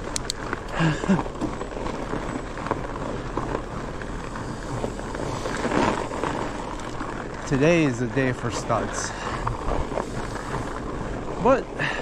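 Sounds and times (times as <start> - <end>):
bike tyres rolling over ice: 0.0 - 12.0.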